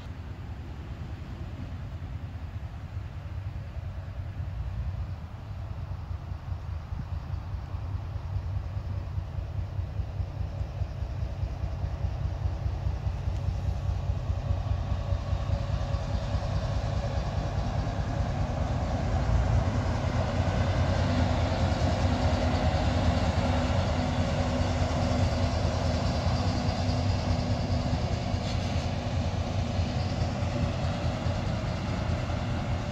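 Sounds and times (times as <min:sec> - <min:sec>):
locomotive engine rumble: 0:00.0 - 0:32.9
train cars rolling by: 0:00.0 - 0:32.9.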